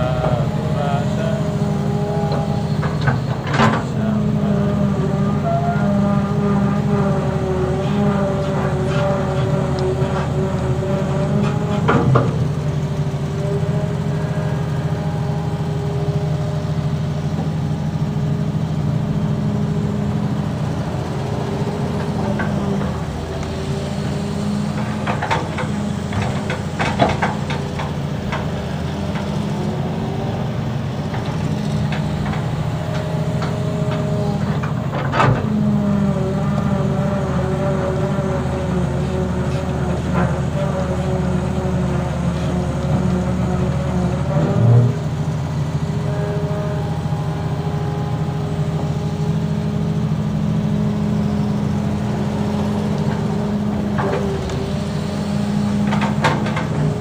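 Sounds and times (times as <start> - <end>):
clunks: 0.0 - 57.0
excavator diesel engine running: 0.0 - 57.0.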